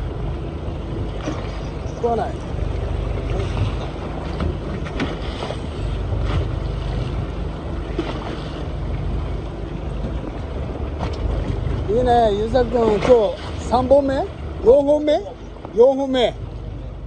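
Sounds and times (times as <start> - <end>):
steady low rumble: 0.0 - 17.0
waves washing: 0.0 - 17.0.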